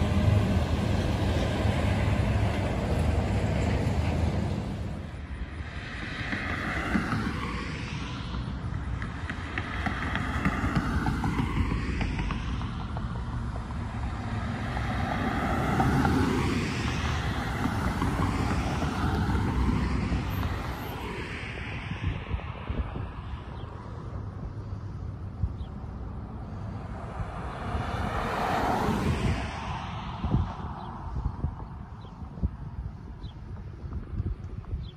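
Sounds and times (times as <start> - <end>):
cars passing: 0.0 - 34.9.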